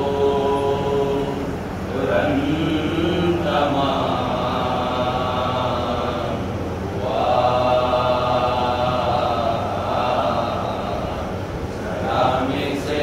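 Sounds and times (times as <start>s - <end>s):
men chanting together: 0.0s - 13.0s.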